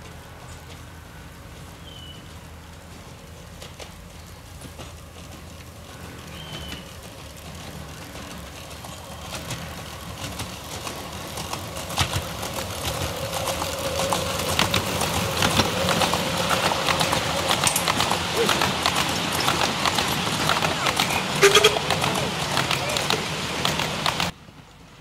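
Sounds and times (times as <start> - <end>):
miniature steam train running: 0.0 - 25.0
wheels clattering on track: 0.0 - 25.0.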